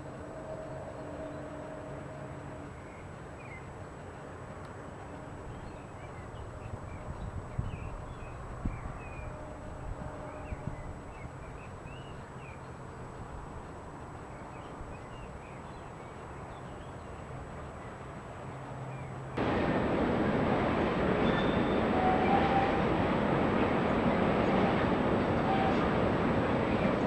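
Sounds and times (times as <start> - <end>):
distant railway yard hum: 0.0 - 27.0
train rushing past: 0.0 - 27.0.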